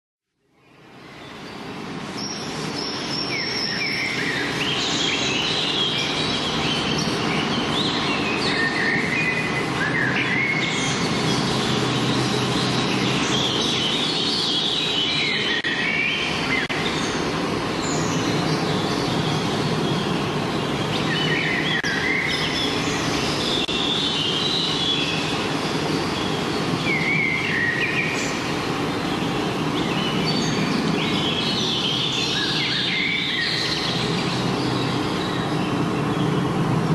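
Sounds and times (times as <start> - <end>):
songbirds singing: 0.4 - 36.9
steady rushing noise: 0.8 - 36.9.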